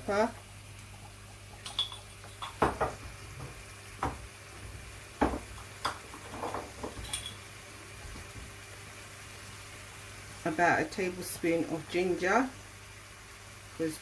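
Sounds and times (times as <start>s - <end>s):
frying sizzle: 0.0s - 14.0s.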